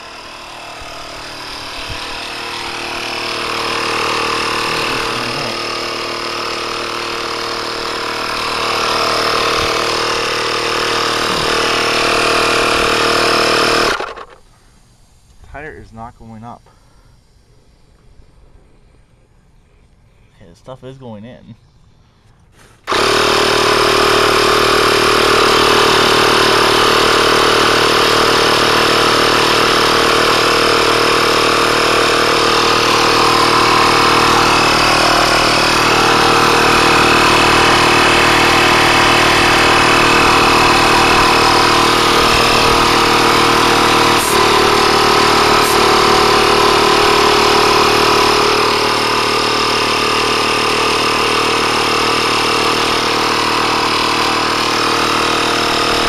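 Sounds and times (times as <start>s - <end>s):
pump motor running loudly: 0.0s - 14.7s, 22.6s - 56.0s.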